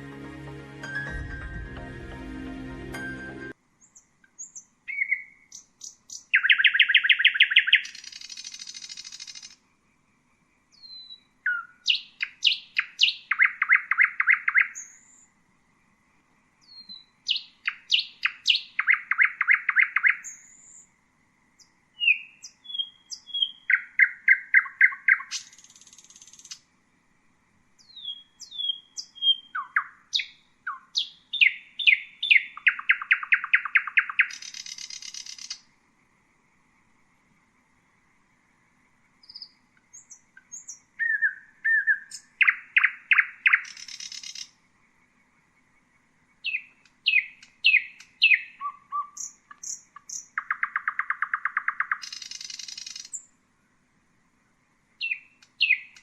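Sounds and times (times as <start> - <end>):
nightingale singing: 0.9 - 9.6, 10.6 - 15.4, 16.6 - 26.7, 27.8 - 35.8, 38.4 - 53.4, 54.8 - 56.0.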